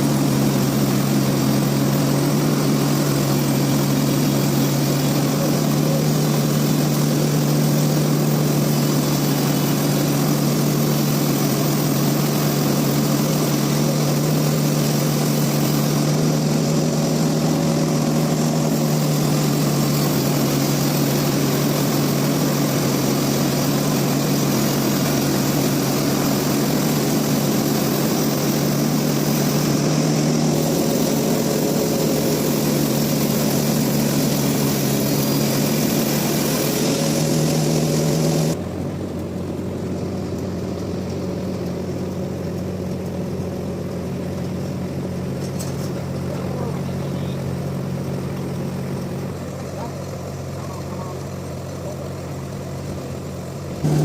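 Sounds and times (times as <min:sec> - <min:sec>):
sawmill machinery hum: 0:00.0 - 0:54.0.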